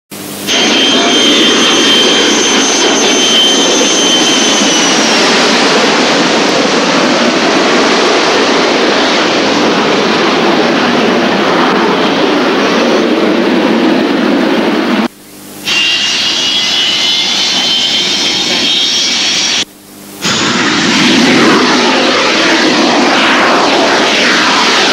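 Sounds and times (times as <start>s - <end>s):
jet engines roaring with whine: 0.1s - 24.9s.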